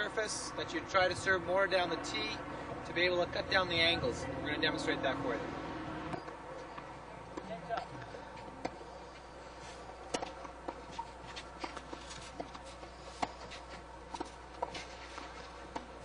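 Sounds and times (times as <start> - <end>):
low hum: 0.0 - 16.0
tennis balls struck and bouncing: 1.1 - 16.0.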